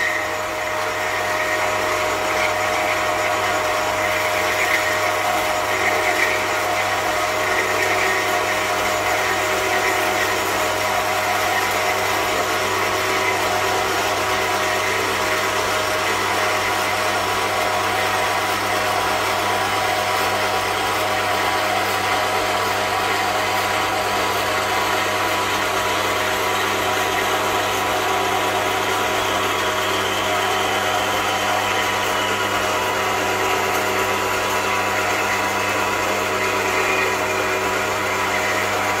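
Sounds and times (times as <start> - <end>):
bandsaw cutting metal tube: 0.0 - 39.0.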